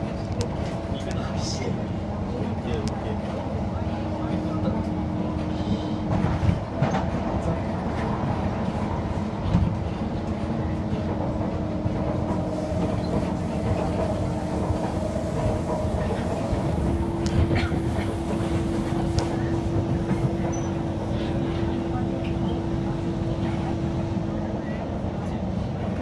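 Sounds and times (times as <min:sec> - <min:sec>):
rail clicks: 0:00.0 - 0:26.0
train motor humming: 0:00.0 - 0:26.0
train wheels rumbling on track: 0:00.0 - 0:26.0.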